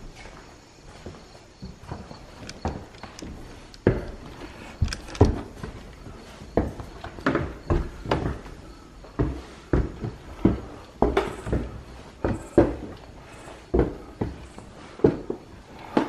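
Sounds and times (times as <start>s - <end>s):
footsteps on wooden stairs: 0.0s - 16.0s.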